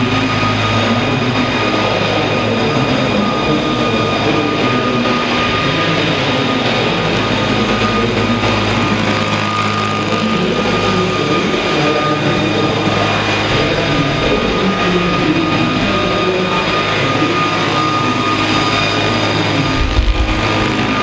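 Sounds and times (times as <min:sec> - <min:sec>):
model helicopter rotors whining: 0:00.0 - 0:21.0.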